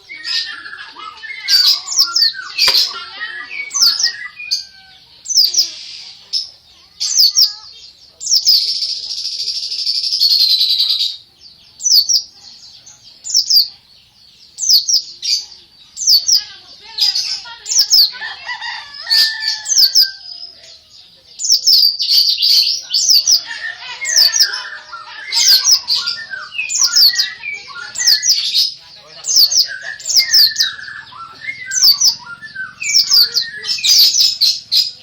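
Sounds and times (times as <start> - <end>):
bird singing: 0.0 - 35.0.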